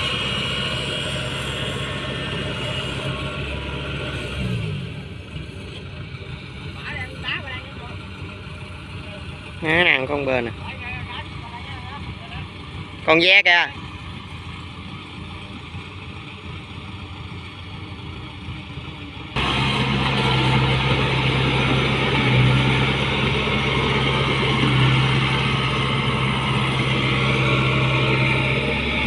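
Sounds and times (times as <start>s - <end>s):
heavy mechanical noise: 0.0s - 13.4s, 14.3s - 29.0s
farm machine engine running: 0.0s - 29.0s.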